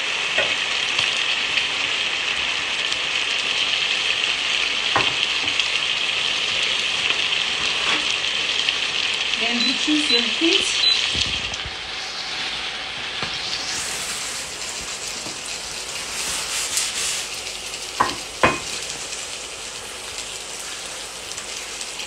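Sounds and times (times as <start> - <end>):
chicken wings sizzling in a pan: 0.0 - 22.0.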